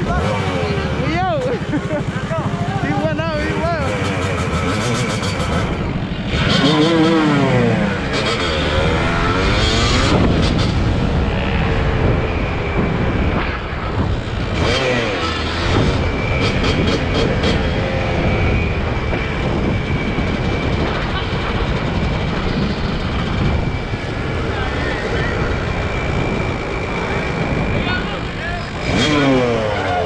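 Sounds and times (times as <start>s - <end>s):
motorcycles revving and passing: 0.0s - 30.0s.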